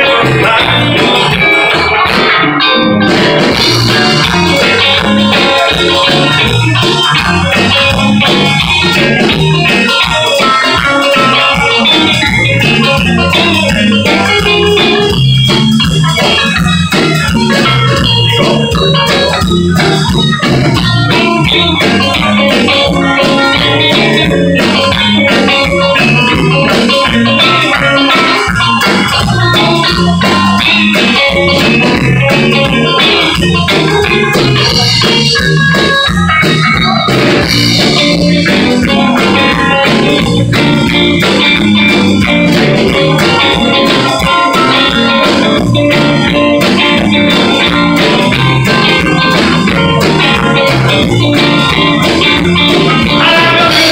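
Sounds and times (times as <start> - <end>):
electric guitars: 0.0 - 53.9
organ: 0.0 - 53.9
steady drum beat: 0.0 - 53.9.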